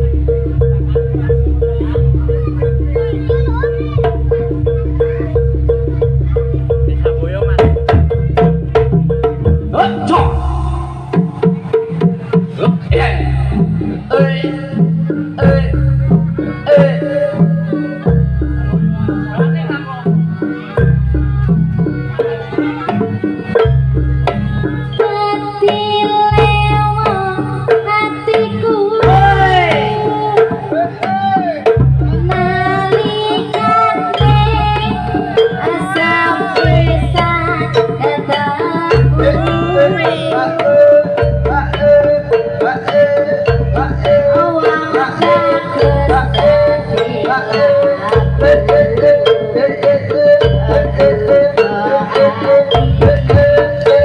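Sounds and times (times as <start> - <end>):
low drum beat: 0.0 - 24.9, 29.0 - 54.0
hand drumming: 0.0 - 54.0
wavering bending melody: 0.0 - 54.0.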